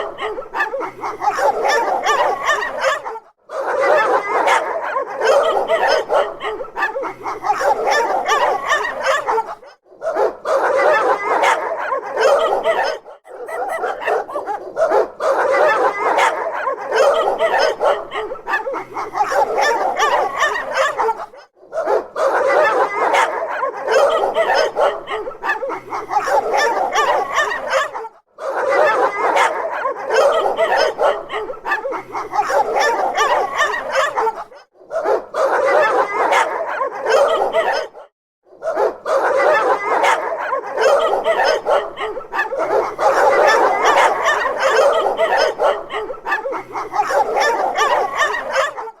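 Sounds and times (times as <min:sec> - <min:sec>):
dogs barking and yipping: 0:00.0 - 0:49.0.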